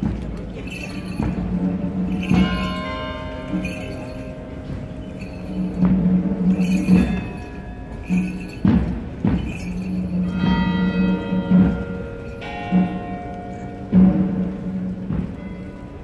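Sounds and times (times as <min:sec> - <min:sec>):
church bell tolling: 0:00.0 - 0:16.0
heavy drum beats: 0:00.0 - 0:16.0.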